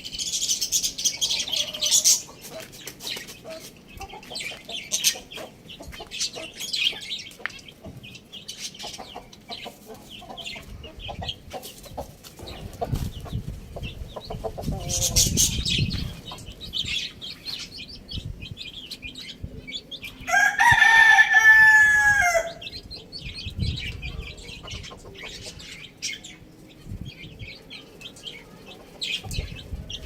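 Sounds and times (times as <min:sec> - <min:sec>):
chickens clucking: 0:00.0 - 0:30.0
small birds chirping: 0:00.0 - 0:30.0.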